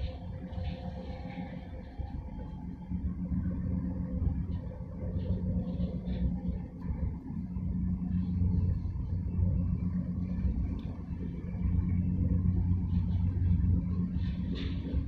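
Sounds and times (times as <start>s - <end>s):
ship engine rumble: 0.0s - 15.0s.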